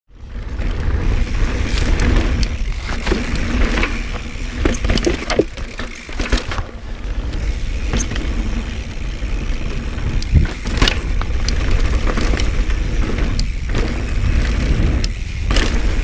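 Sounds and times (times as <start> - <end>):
bike rattles and knocks: 0.2 - 16.0
tyres rolling over gravel: 0.2 - 16.0.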